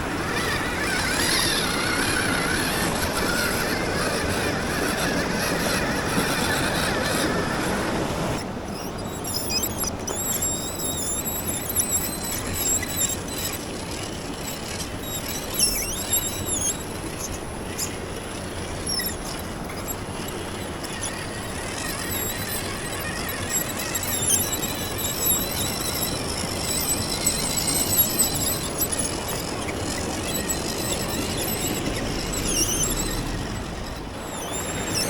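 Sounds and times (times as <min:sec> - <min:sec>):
toy car motor whining: 0:00.0 - 0:35.0.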